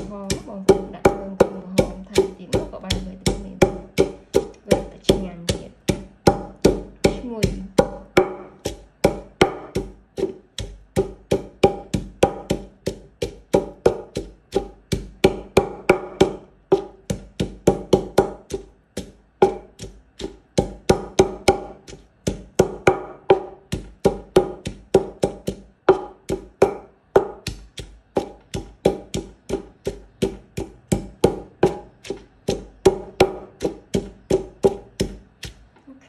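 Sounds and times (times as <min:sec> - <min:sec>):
stone pestle pounding in mortar: 0:00.0 - 0:35.7.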